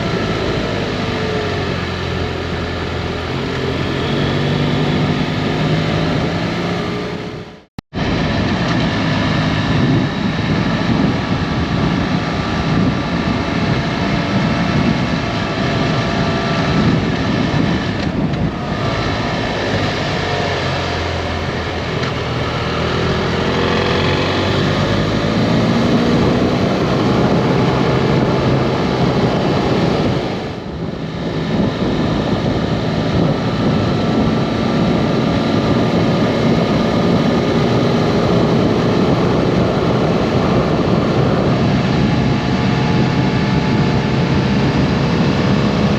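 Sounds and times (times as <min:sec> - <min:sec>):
motorcycle engine revving: 0:00.0 - 0:45.9
wind noise on microphone: 0:00.0 - 0:45.9.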